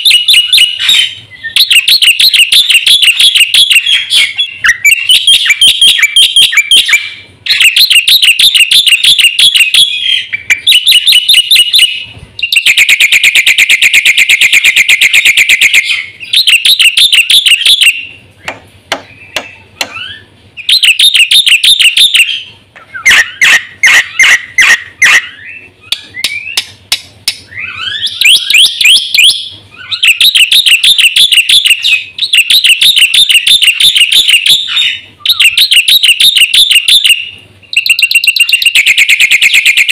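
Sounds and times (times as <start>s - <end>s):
myna shrill chattering song: 0.0s - 18.2s, 19.1s - 26.6s, 27.5s - 39.9s.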